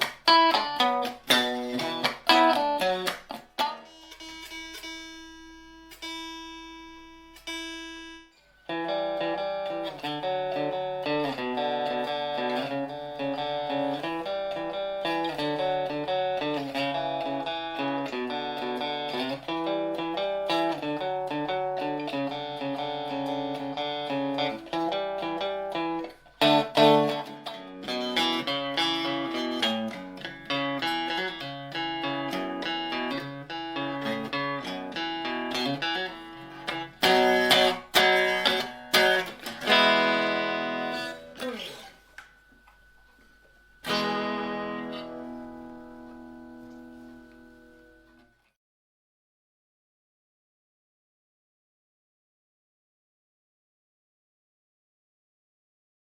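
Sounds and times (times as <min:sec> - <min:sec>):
electric guitar chords and riffs: 0:00.0 - 0:48.3
electric guitar note ringing: 0:00.2 - 0:48.3.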